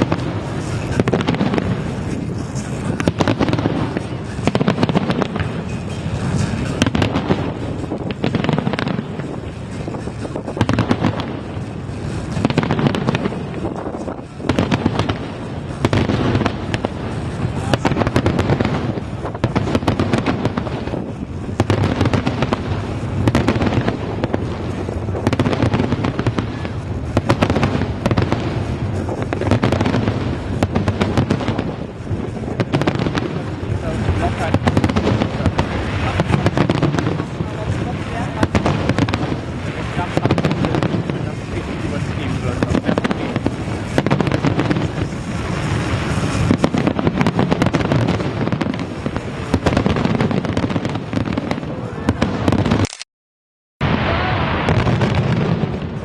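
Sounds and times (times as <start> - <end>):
fireworks cracks and booms: 0.0 - 53.0, 53.8 - 56.0.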